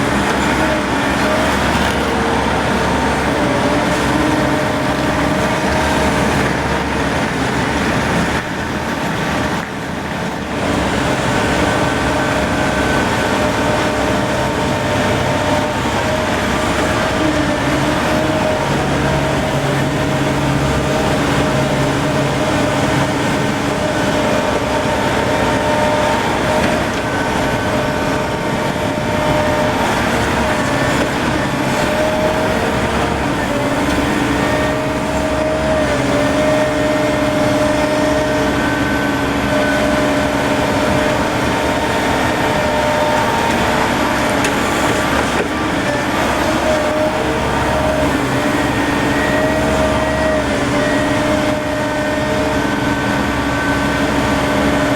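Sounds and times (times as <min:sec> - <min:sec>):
heavy machinery engines droning: 0:00.0 - 0:54.9.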